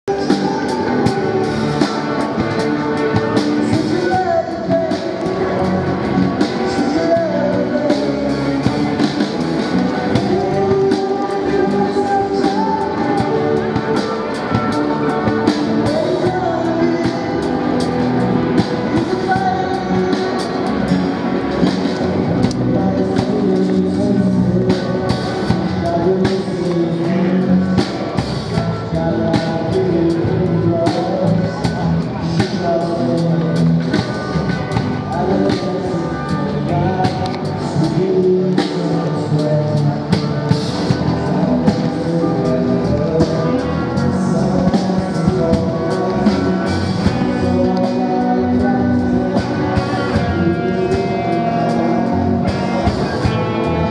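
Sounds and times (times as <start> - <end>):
person singing: 0.0 - 53.9
live rock band playing: 0.1 - 53.9.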